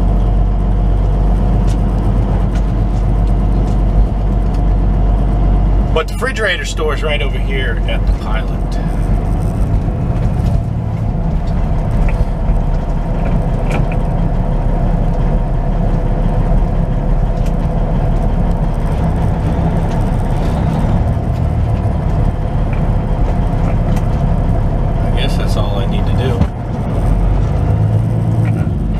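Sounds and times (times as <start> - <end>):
diesel truck engine rumbling: 0.0 - 28.9.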